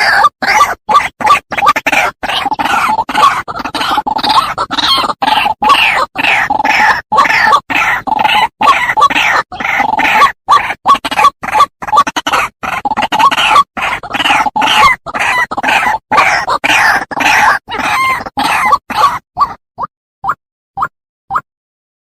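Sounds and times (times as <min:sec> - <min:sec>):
waterhen calling: 0:01.3 - 0:19.6.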